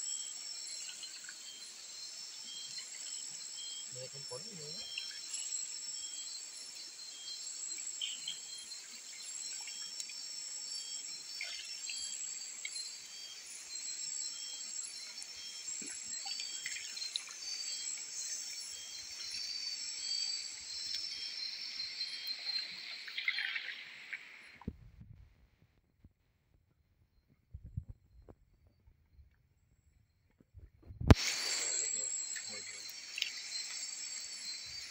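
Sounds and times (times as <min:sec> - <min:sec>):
night insect chorus: 0:00.0 - 0:24.7, 0:31.0 - 0:34.9.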